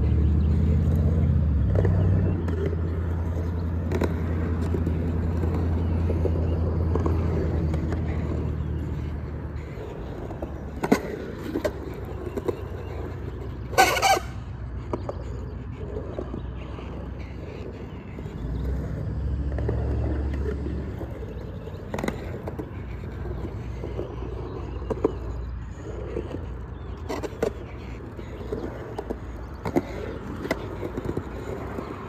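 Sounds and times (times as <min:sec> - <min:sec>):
skateboard clacks: 0:00.0 - 0:32.0
skateboard wheels rolling on concrete: 0:00.0 - 0:32.0.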